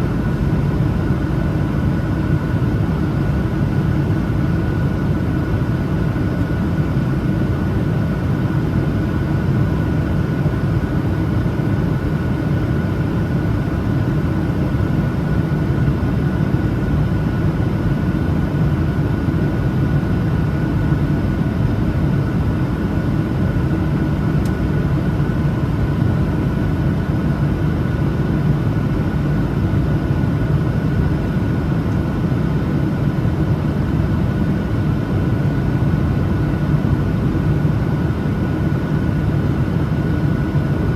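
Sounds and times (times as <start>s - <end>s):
airplane cabin roar: 0.0s - 40.9s
thin steady engine whine: 0.0s - 40.9s.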